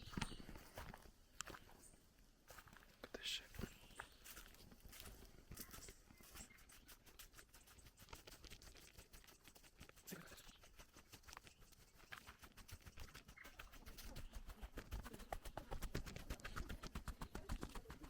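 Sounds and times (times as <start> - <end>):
faint light ticking and patter: 0.0 - 18.0.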